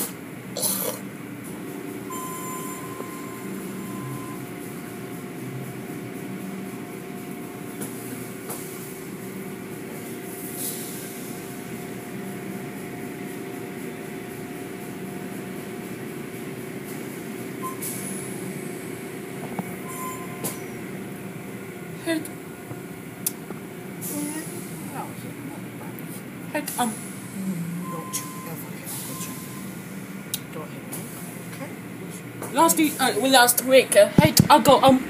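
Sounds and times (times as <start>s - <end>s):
machinery hum: 0.0s - 35.0s.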